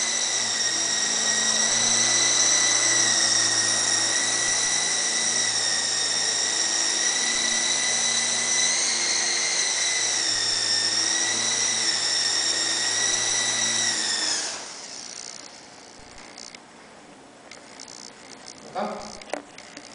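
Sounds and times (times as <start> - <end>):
toy helicopter rotors whining: 0.0 - 16.6, 17.5 - 19.9.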